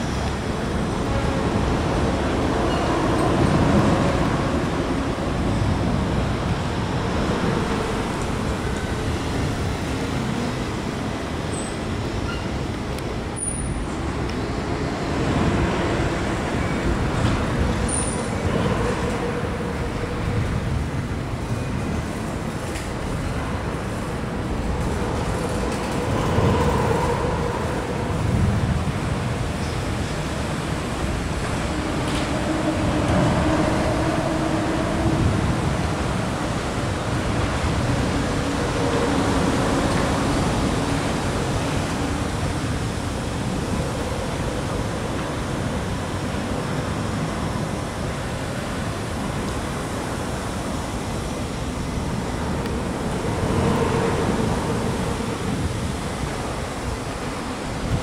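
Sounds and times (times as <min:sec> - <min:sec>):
city road traffic: 0:00.0 - 0:58.0
vehicles passing: 0:00.0 - 0:58.0.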